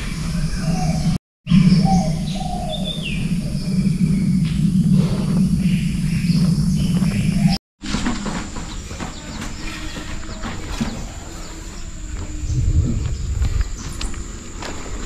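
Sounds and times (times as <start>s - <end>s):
birds chirping: 0.0s - 7.6s, 8.3s - 15.0s
steady low hum: 0.0s - 7.6s, 8.6s - 15.0s
insect noise: 0.0s - 15.0s.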